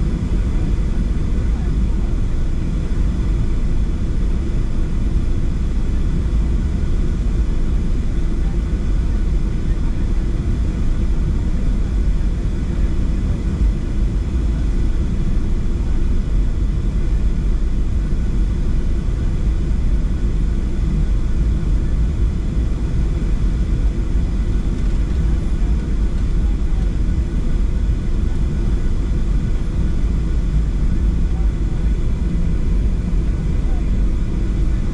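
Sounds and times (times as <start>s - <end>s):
jet engines idling in cabin: 0.0s - 34.9s.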